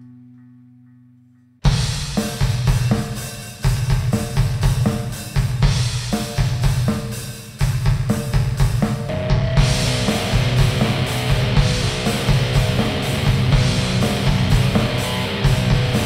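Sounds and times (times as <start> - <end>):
drum kit played hard: 1.6 - 16.0
heavy band music: 1.6 - 16.0.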